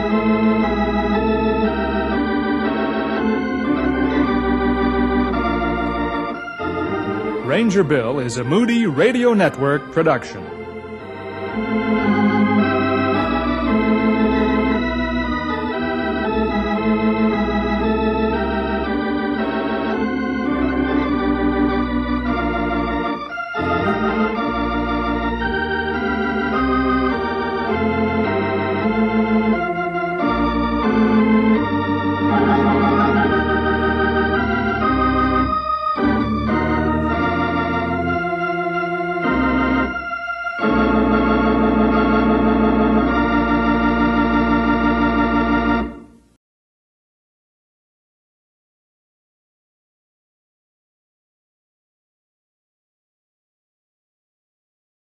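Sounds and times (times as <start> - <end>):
organ music: 0.0 - 46.4.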